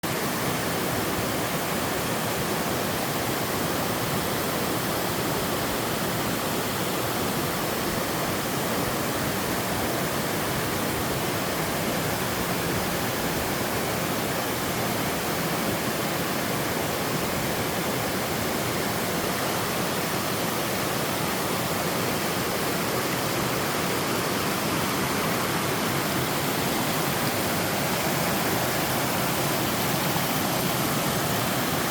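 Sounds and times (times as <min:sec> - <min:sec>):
waterfall over sloping rock: 0:00.0 - 0:31.9.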